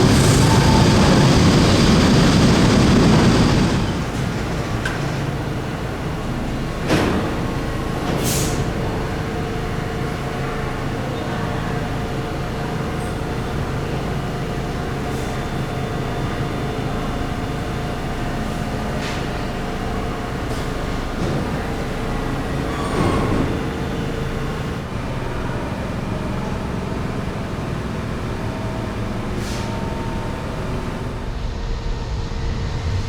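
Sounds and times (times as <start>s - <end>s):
subway train rumbling: 0.0s - 33.0s.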